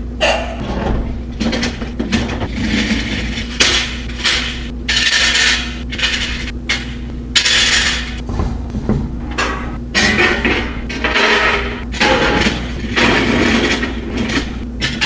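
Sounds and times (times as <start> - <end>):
low mechanical hum: 0.0 - 15.0
metal equipment rattling: 0.6 - 15.0.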